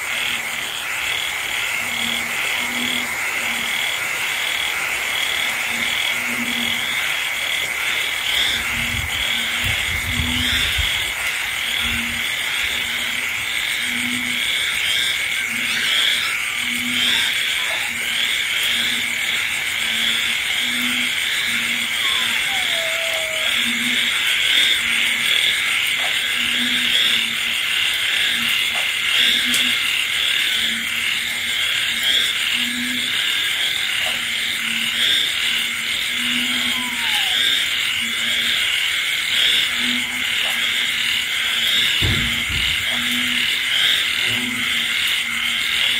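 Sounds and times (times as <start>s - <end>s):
chatter of frog calls: 0.0s - 45.9s
rain: 0.0s - 45.9s
high insect trill: 0.2s - 45.9s
low frog call: 5.4s - 45.9s.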